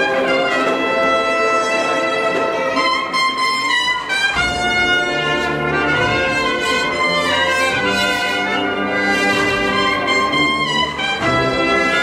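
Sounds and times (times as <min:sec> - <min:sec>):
brass band playing a march: 0:00.0 - 0:12.0.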